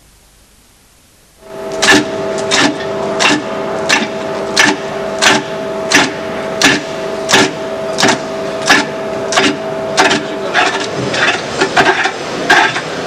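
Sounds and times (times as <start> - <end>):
lathe humming: 1.4 - 13.0
tool cutting wood: 1.8 - 12.9.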